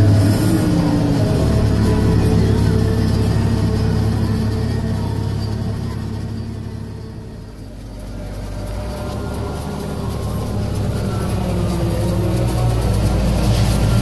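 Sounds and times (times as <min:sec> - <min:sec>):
tractor and forage harvester droning: 0:00.0 - 0:14.0.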